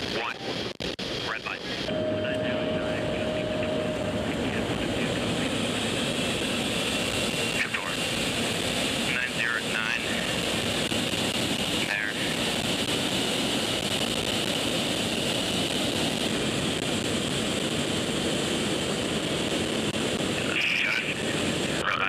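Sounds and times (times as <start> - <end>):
jet engine noise: 0.0 - 22.0.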